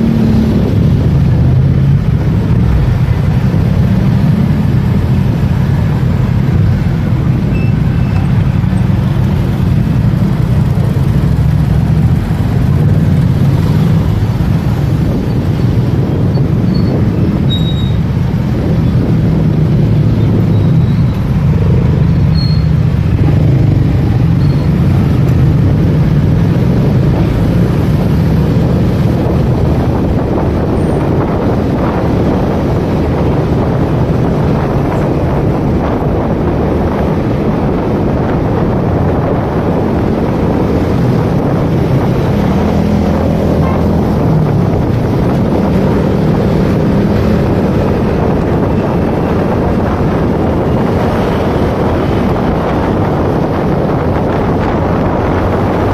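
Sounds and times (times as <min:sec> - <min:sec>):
wind rush on microphone: 0:00.0 - 0:55.9.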